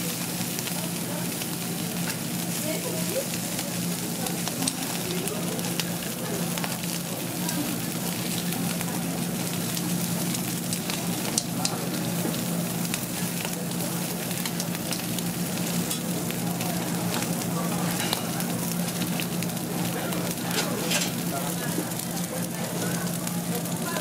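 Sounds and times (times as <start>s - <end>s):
charcoal fire popping and crackling: 0.0s - 24.0s
fish sizzling on a grill: 0.0s - 24.0s.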